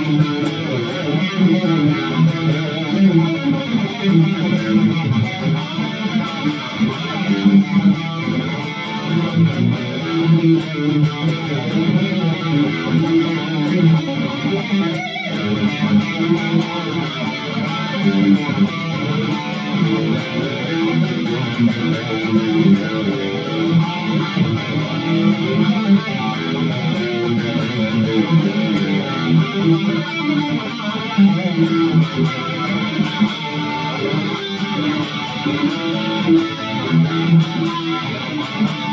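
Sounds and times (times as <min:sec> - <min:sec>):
electric guitar playing rhythm: 0:00.0 - 0:38.9.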